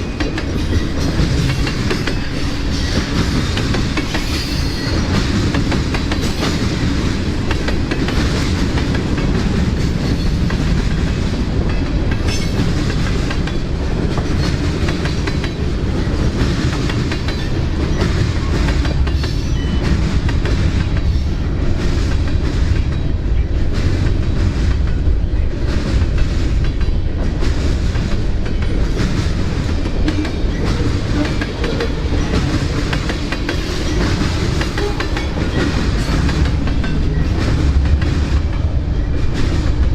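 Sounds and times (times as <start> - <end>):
freight train wheels clicking on rails: 0.0 - 39.9.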